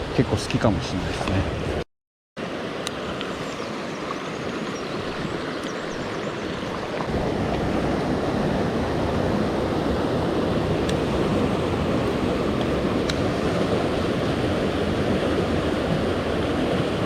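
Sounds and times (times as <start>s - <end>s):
water rushing over rocks: 2.4s - 17.0s.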